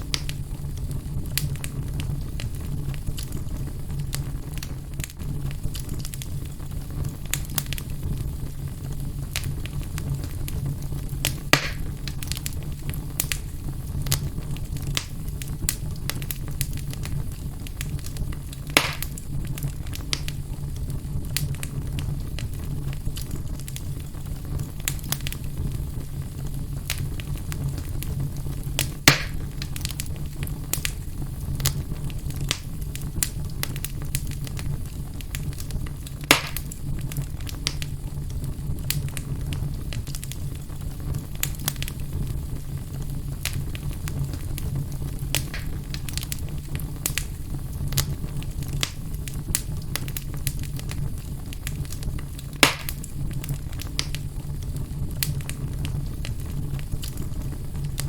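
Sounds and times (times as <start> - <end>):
fire pops: 0.0 - 58.0
wood fire crackling: 0.0 - 58.0.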